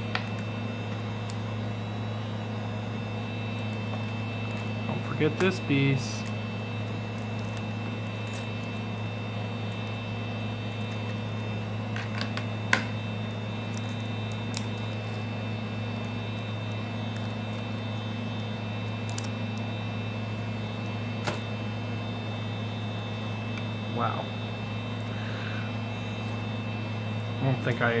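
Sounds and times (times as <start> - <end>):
low electric hum: 0.0 - 28.0.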